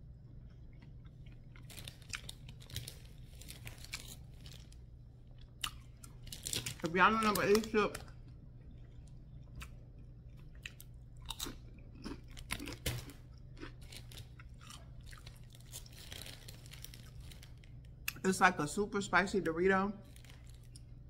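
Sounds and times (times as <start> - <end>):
steady low hum: 0.0 - 21.0
chips crunching and chewing: 0.3 - 18.2, 20.0 - 21.0.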